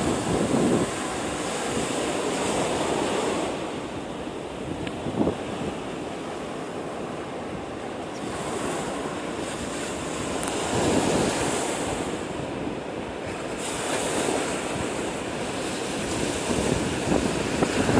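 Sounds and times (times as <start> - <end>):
surf breaking on a sandy beach: 0.0 - 17.9
wind blowing: 0.0 - 17.9.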